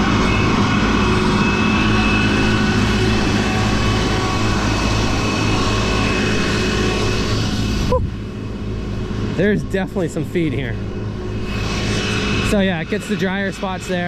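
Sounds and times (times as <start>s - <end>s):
mower high whine: 0.0s - 14.0s
tractor engine drone: 0.0s - 14.0s.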